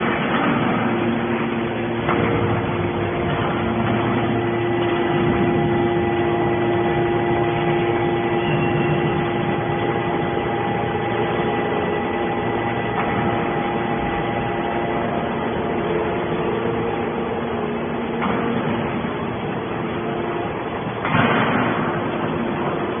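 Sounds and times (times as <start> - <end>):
hydraulic machine hum: 0.0 - 23.0.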